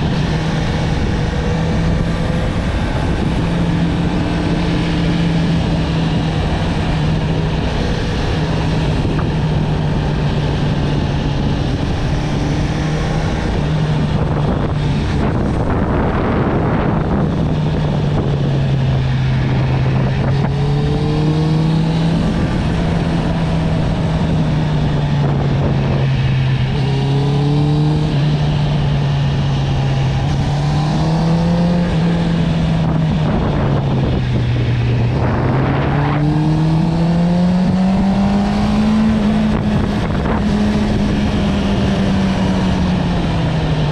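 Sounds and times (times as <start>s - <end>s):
motorcycle engine cruising: 0.0s - 43.9s
wind rushing: 0.0s - 43.9s.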